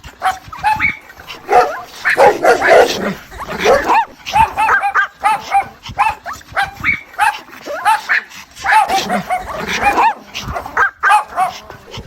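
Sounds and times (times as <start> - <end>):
dog whining and yipping: 0.2 - 10.2.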